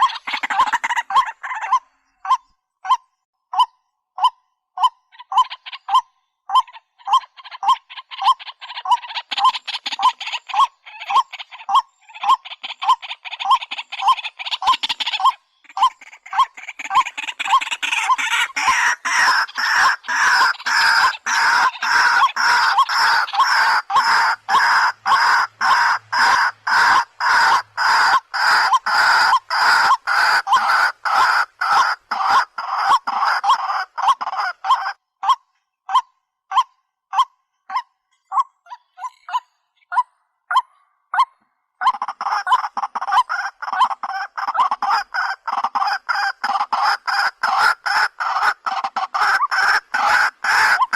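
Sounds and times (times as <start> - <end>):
waterhen calling harsh notes: 0.0 - 50.9.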